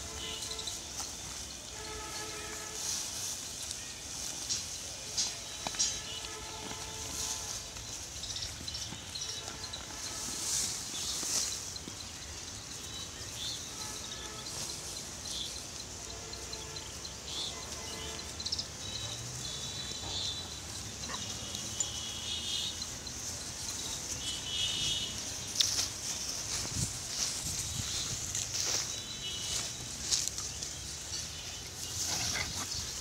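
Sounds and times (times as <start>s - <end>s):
rustling in dry litter: 0.0s - 18.4s, 20.6s - 33.0s.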